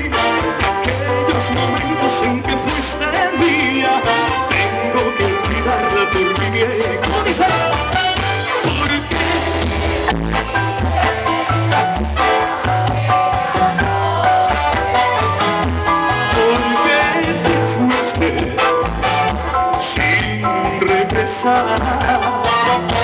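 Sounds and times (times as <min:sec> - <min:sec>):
bass guitar low notes: 0:00.0 - 0:22.5
drum kit with cymbals: 0:00.0 - 0:23.0
live pop band playing: 0:00.0 - 0:23.0.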